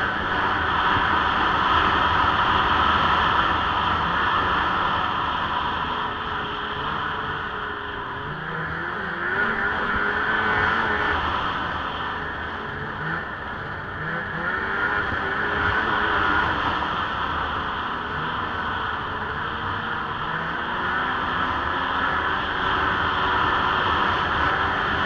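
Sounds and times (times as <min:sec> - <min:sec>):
snowmobile engine running: 0:00.0 - 0:25.0
snowmobile track noise: 0:00.0 - 0:25.0
wind: 0:00.0 - 0:25.0.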